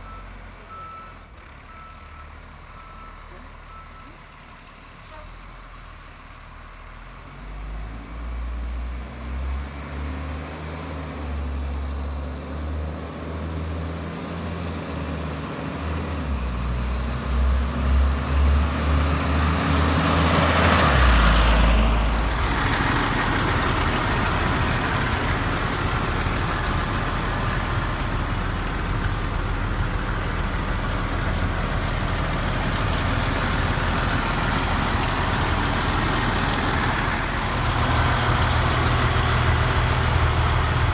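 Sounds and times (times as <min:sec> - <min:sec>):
diesel truck engine rumbling: 0:00.0 - 0:40.9.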